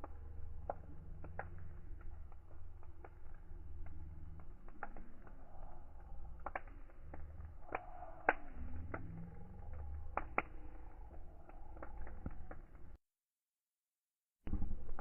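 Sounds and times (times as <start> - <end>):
low rumble of flames: 0.0 - 13.0, 14.5 - 15.0
wood fire crackling and popping: 0.0 - 13.0.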